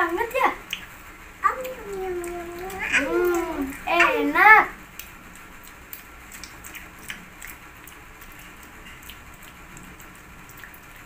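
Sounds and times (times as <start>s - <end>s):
mouth clicks and smacks: 0.6s - 3.8s, 4.9s - 11.0s.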